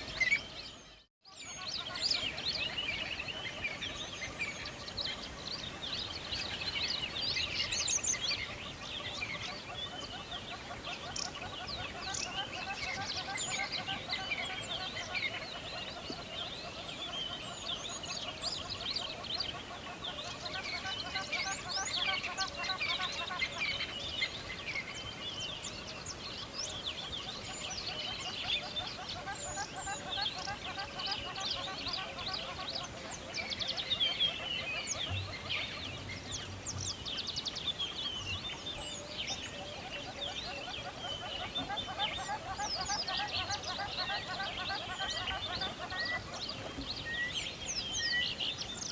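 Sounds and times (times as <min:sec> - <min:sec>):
chorus of birds singing: 0:00.0 - 0:48.9.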